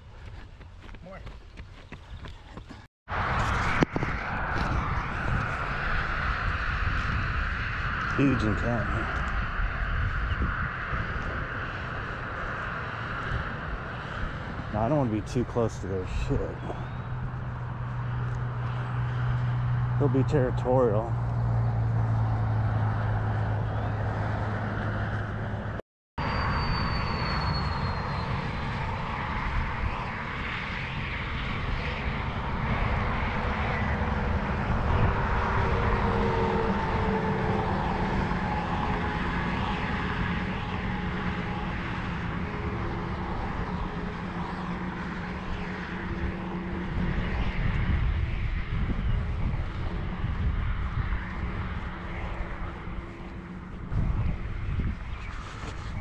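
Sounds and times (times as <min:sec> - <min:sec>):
highway traffic roar: 0:00.0 - 0:56.0
airplane drone passing over: 0:03.1 - 0:56.0.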